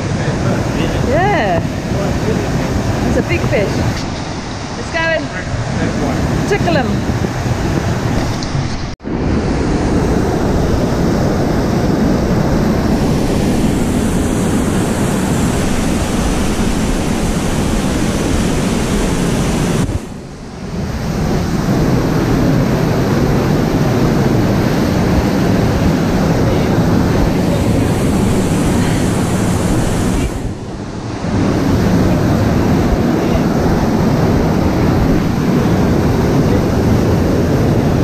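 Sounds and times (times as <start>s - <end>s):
water roaring over a weir: 0.0s - 38.0s.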